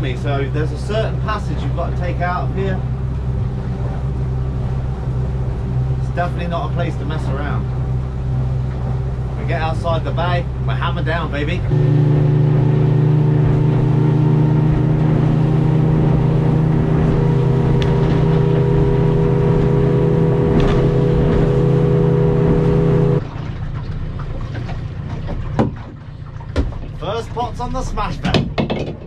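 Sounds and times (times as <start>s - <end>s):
outboard engine droning: 0.0s - 28.6s.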